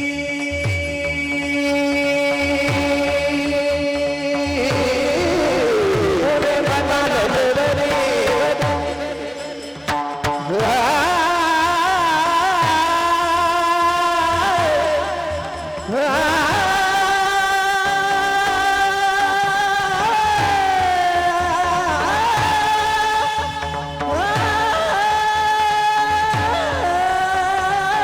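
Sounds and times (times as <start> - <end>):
person singing with vibrato: 0.0 - 28.0.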